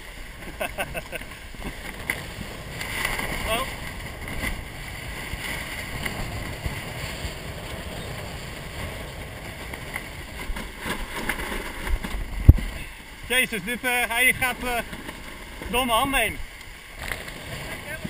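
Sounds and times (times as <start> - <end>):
water rushing along boat hull: 0.0 - 18.0
wind rumble on microphone: 1.6 - 18.0.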